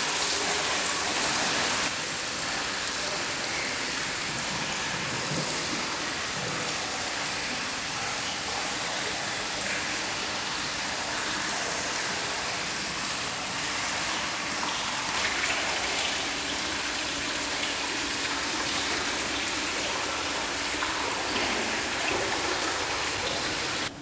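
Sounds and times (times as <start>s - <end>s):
running water rushing: 0.0s - 23.9s
faint steady hum: 0.0s - 24.0s.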